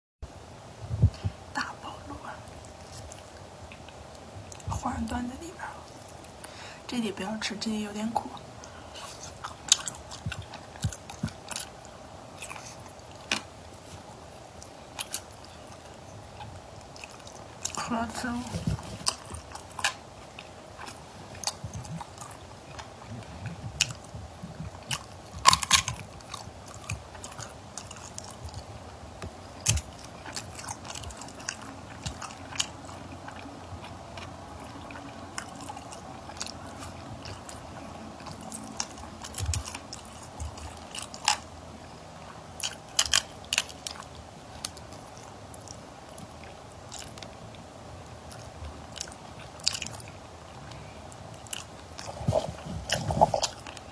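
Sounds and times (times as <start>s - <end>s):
chewing and wet mouth sounds: 1.0s - 53.9s.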